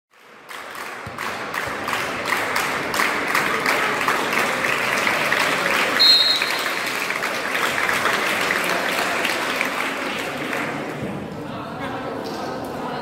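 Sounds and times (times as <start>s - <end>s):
hands clapping: 0.1s - 11.0s.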